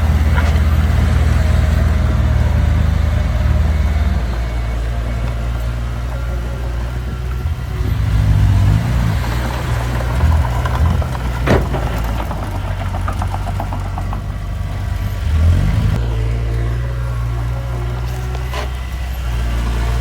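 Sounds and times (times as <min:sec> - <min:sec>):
diesel engine running: 0:00.0 - 0:20.0
rattling: 0:00.0 - 0:20.0.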